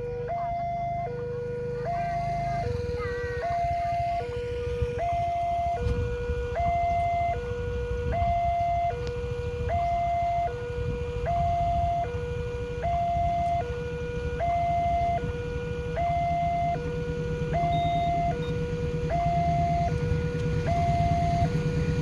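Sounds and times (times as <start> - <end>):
level crossing two-tone alarm: 0.0 - 22.0.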